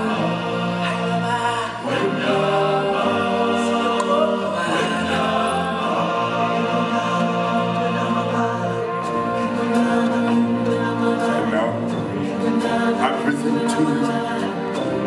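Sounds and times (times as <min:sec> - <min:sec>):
choir singing sustained notes: 0:00.0 - 0:15.0
musical backing: 0:00.0 - 0:15.0.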